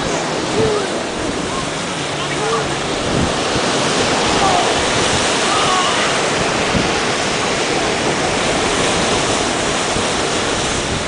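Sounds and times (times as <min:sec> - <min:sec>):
surf breaking on shore: 0:00.0 - 0:11.0
wind buffeting microphone: 0:00.0 - 0:11.0.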